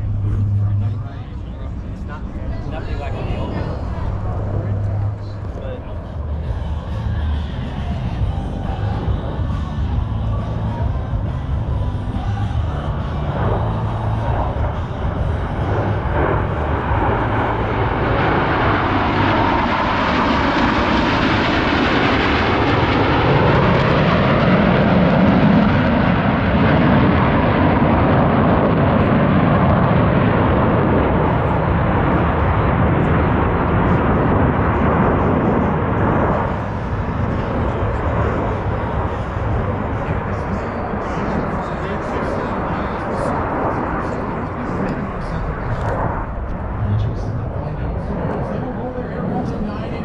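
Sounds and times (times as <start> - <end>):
jet planes roaring past: 0.0 - 50.0.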